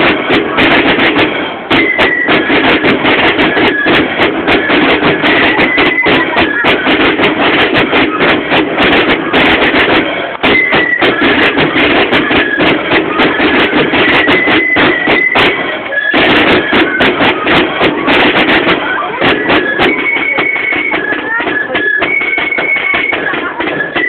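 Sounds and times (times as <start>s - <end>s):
concertina band playing: 0.0s - 24.0s
sharp beats: 0.0s - 24.0s.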